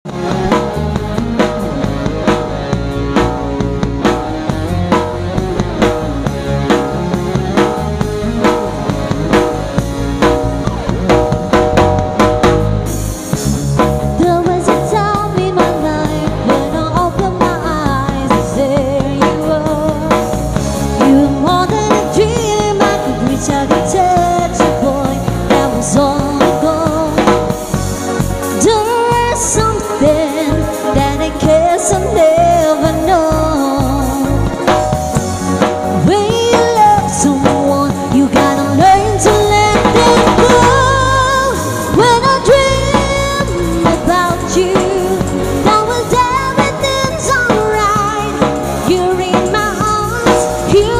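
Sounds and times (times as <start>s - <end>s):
pop band instrumental: 0.0s - 50.9s
drum kit beat: 0.1s - 50.9s
wavering lead line: 0.1s - 50.9s.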